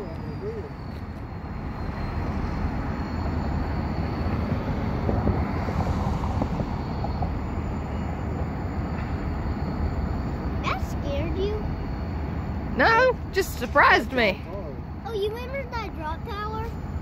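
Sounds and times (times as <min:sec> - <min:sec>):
diesel locomotives rumbling: 0:00.0 - 0:17.0.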